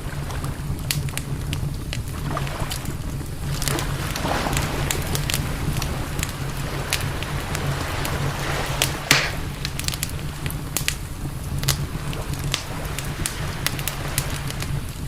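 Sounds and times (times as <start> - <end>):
campfire crackling: 0.0 - 15.0
steady low rumble: 0.0 - 15.0
hiss from fire: 0.1 - 15.0
sharp pops from fire: 0.7 - 15.0.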